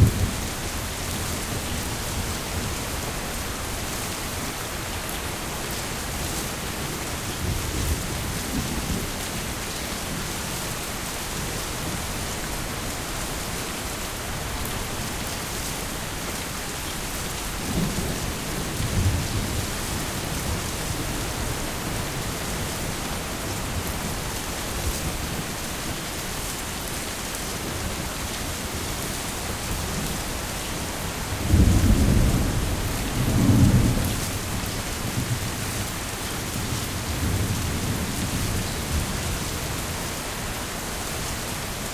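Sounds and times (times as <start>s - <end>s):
thunder rumbling: 0.0s - 13.8s, 14.4s - 40.2s
heavy rain falling: 0.0s - 41.9s.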